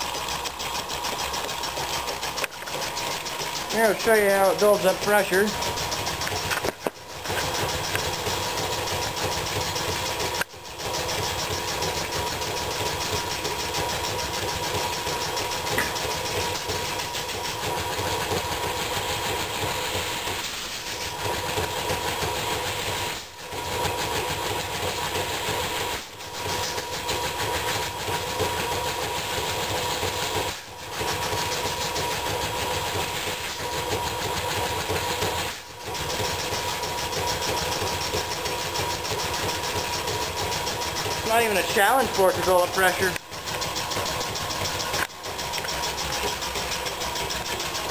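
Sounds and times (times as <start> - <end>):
belt-driven air compressor pumping: 0.0 - 47.9.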